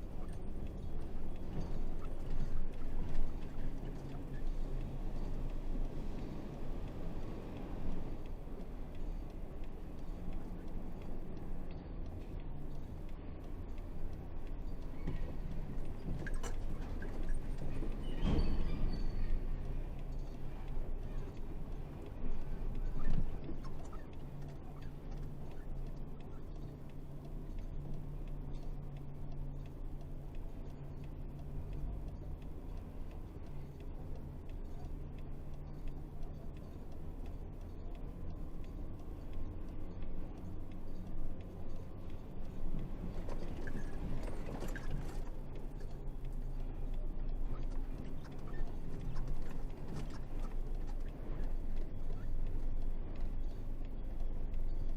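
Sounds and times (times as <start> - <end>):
light clicking and rattling: 0.0 - 54.9.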